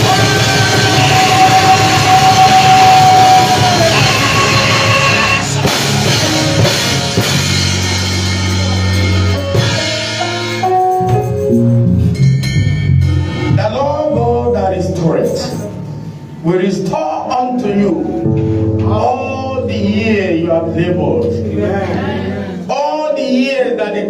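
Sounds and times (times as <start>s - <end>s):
live band music: 0.0s - 22.7s.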